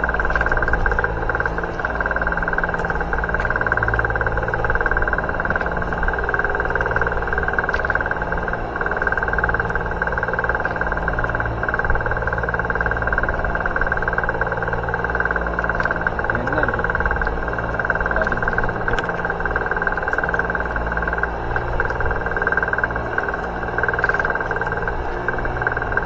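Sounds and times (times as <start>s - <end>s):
motor running with whine: 0.0s - 26.0s.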